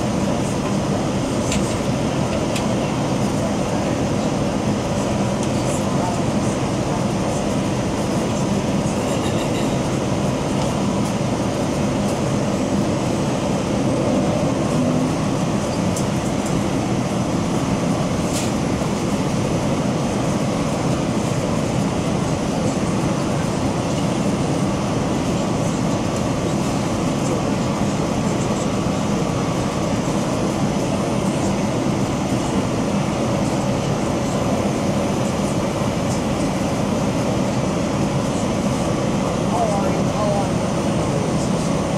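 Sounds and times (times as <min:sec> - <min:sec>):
jet engine drone: 0:00.0 - 0:41.9.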